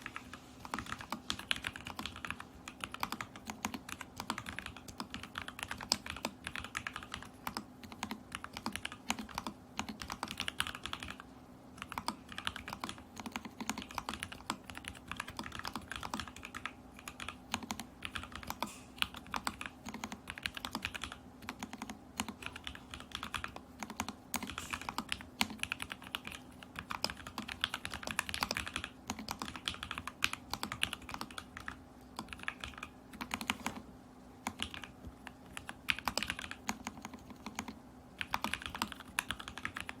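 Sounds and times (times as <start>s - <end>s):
fast typing on mechanical keyboard: 0.0s - 33.8s, 34.4s - 40.0s.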